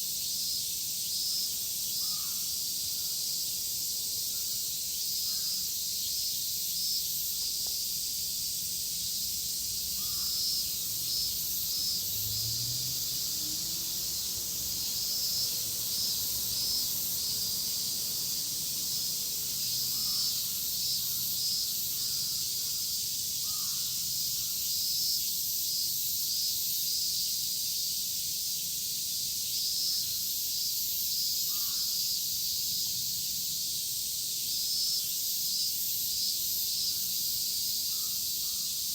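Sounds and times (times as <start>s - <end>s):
cicadas shrilling: 0.0s - 38.9s.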